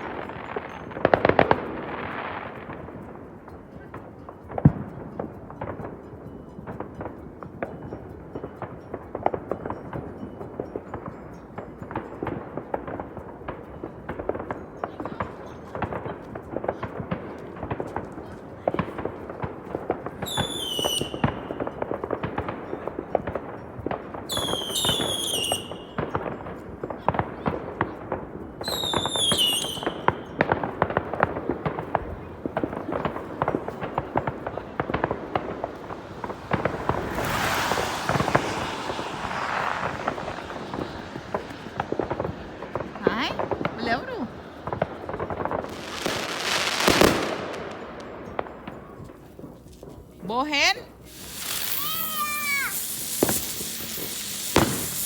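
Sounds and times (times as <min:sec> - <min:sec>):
fireworks crackling and banging: 0:00.0 - 0:55.0
whistling fireworks: 0:00.0 - 0:55.0.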